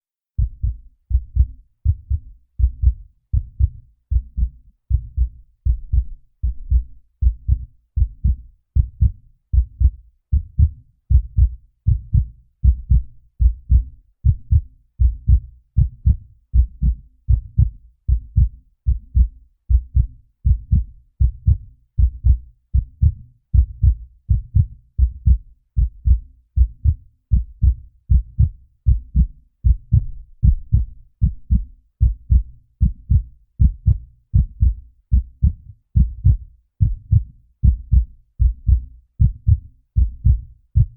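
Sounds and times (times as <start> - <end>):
heartbeat thumps: 0.4 - 40.9.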